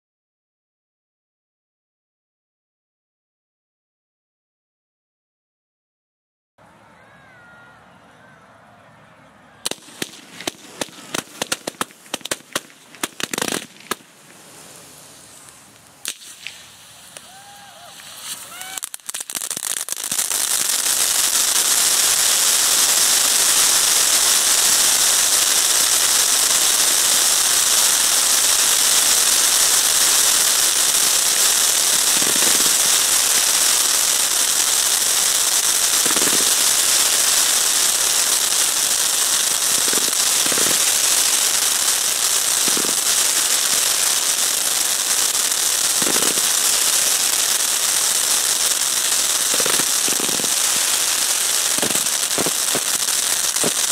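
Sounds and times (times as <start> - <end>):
fireworks hissing and crackling: 9.6 - 53.9.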